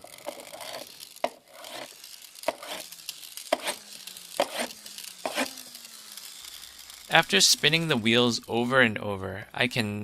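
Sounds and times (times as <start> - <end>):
hand stroking toy wheels: 0.0 - 9.9
toy wheels whirring: 0.0 - 10.0.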